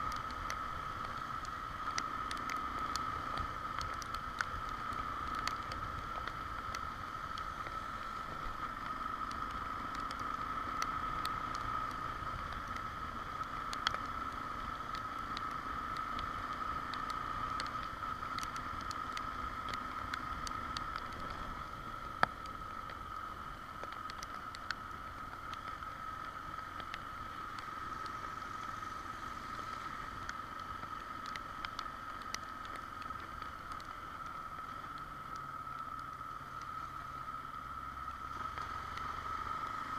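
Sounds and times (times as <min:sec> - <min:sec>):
constant high hum: 0:00.0 - 0:39.9
faint ticks: 0:00.0 - 0:39.9
wind and road noise: 0:00.0 - 0:39.9.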